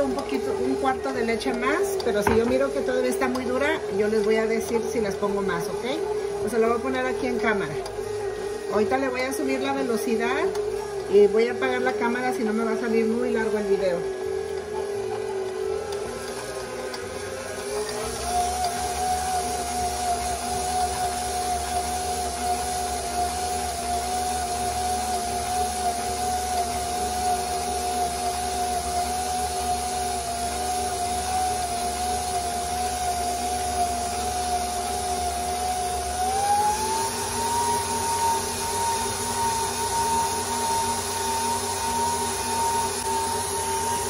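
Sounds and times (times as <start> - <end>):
stand mixer motor whine: 0.0 - 44.0.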